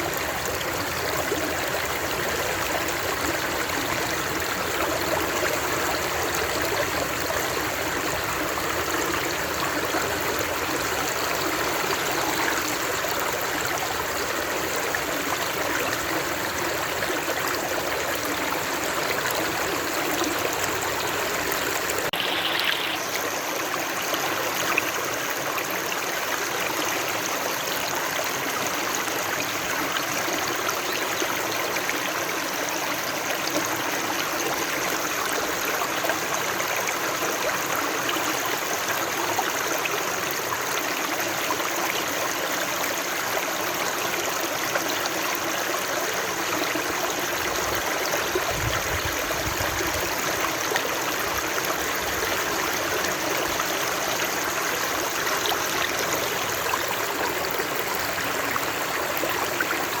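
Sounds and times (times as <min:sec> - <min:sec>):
flowing water rushing: 0:00.0 - 1:00.0.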